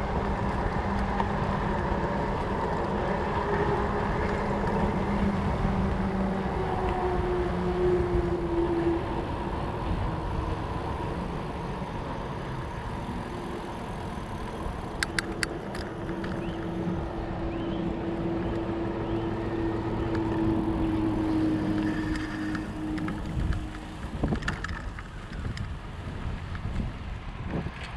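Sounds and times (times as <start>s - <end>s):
bike tyres rolling rumble: 0.0s - 27.9s.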